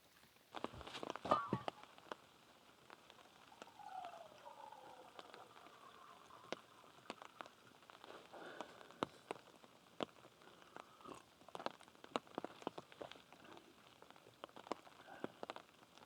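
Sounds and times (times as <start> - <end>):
light rain ticking on a surface: 0.0 - 16.0.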